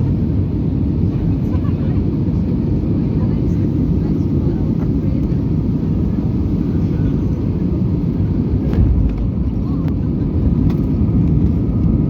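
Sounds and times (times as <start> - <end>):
jet engine and airflow rumble: 0.0 - 12.0.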